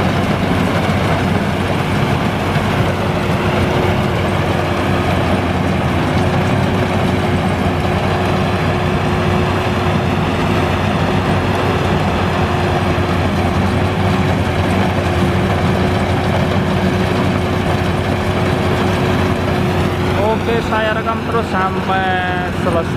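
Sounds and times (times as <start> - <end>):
combine harvester engine rumbling: 0.0 - 22.9.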